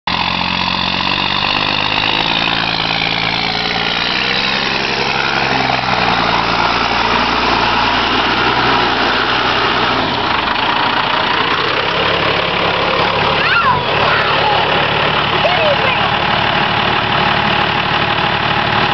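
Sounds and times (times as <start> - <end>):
pickup truck engines revving: 0.1 - 18.9
wheels spinning in mud: 0.1 - 18.9.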